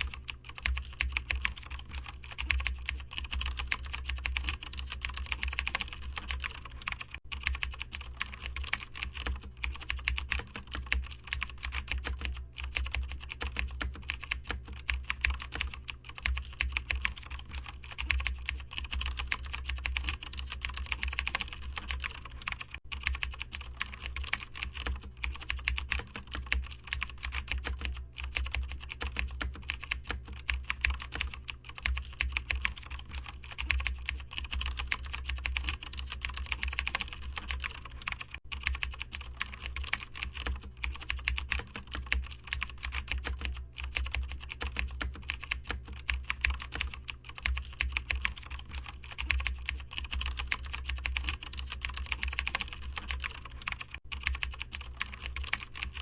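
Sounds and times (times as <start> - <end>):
rapid typing on keyboard: 0.0 - 56.0
steady low hum: 0.0 - 56.0.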